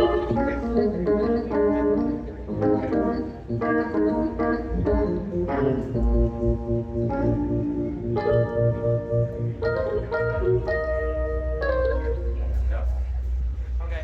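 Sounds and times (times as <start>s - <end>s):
electric organ chords: 0.0s - 12.6s
steady low bass: 0.0s - 14.0s.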